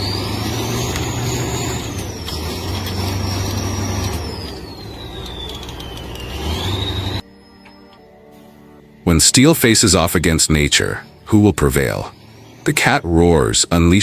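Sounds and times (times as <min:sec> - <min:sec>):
heavy machinery engine drone: 0:00.0 - 0:14.0
high machine whine: 0:00.0 - 0:14.0.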